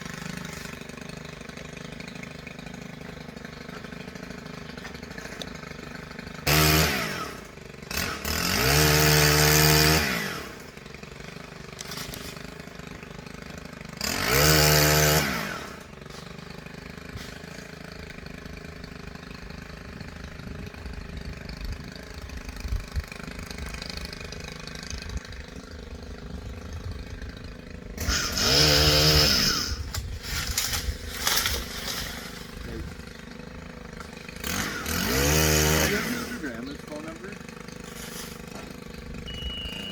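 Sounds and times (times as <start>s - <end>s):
chainsaw revving from idle: 0.0s - 39.9s.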